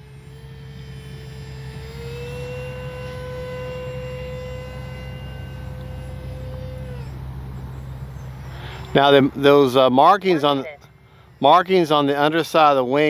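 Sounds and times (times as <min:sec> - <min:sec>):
constant low hum: 0:00.0 - 0:13.0
electric model plane motor whining: 0:00.0 - 0:13.0.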